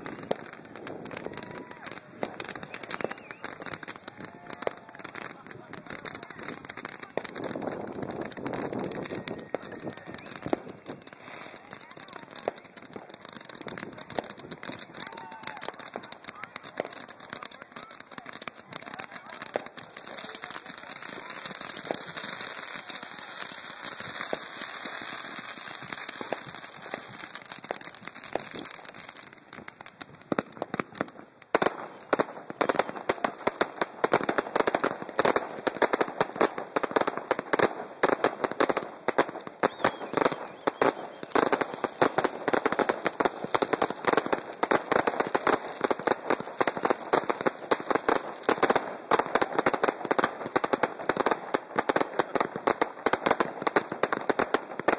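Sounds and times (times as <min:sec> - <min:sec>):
fireworks crackling: 0:00.0 - 0:54.9
fireworks hissing: 0:00.0 - 0:54.9
fireworks popping: 0:00.0 - 0:54.9.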